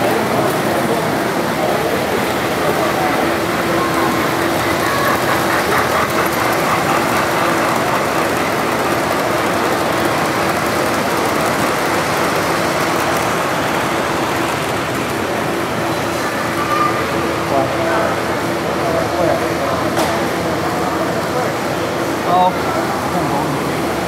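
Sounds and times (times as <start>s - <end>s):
exhibition hall din: 0.0s - 24.0s
toy train on metal track: 0.1s - 19.6s.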